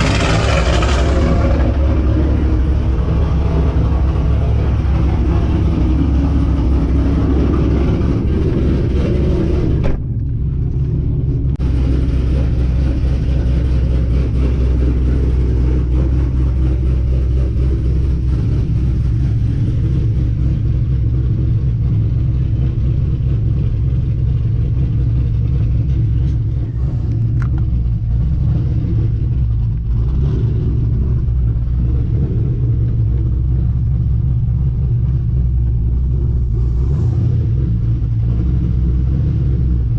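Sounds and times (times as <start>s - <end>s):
car exhaust rumble: 0.0s - 39.9s.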